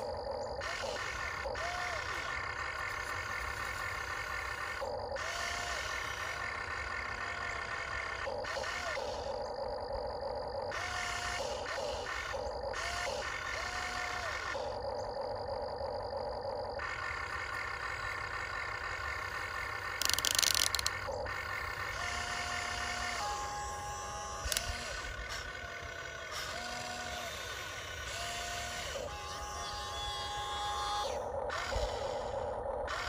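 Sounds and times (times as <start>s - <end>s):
electric motors whining: 0.0s - 33.0s.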